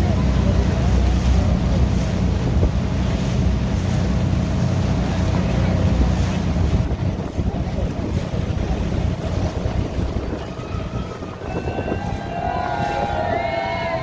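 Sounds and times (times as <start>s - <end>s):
boat engine running: 0.0s - 14.0s
wind rumble on microphone: 0.0s - 14.0s.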